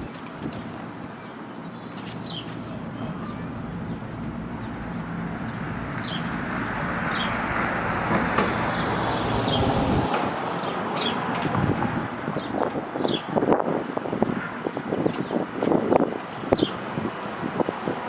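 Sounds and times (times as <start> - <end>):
passing road traffic: 0.0 - 18.0.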